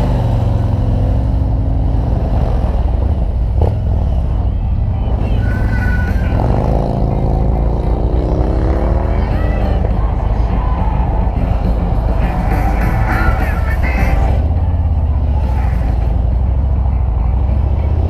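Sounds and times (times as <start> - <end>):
motorcycle engine running: 0.0 - 18.0
wind rumble: 0.0 - 18.0.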